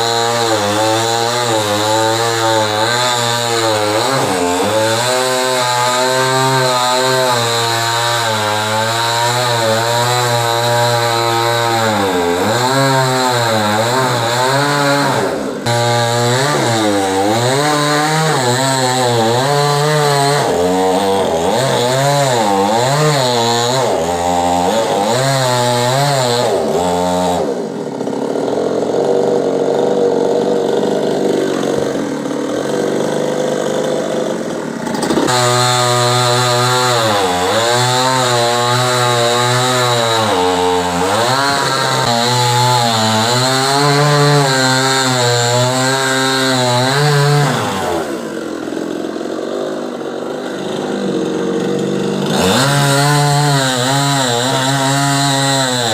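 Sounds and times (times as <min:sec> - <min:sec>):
chainsaw engine revving: 0:00.0 - 0:55.9.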